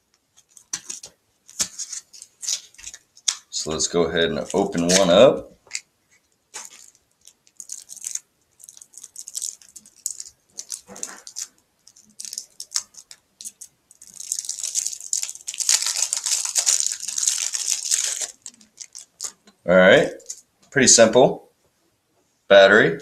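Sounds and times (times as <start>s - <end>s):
packaging crinkling and tearing: 0.3s - 3.6s, 4.3s - 19.6s.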